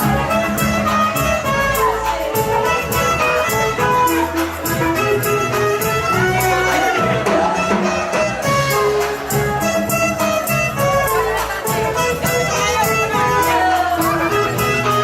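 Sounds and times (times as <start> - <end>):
steady beat: 0.0 - 15.0.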